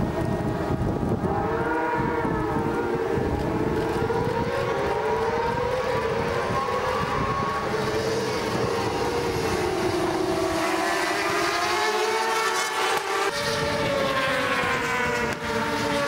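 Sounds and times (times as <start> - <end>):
racing motorcycles at high revs: 0.0 - 16.0.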